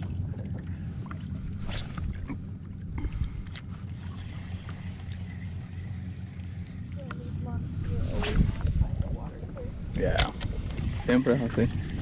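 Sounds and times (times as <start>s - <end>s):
water around a small boat: 0.0s - 12.0s
wind: 0.0s - 12.0s.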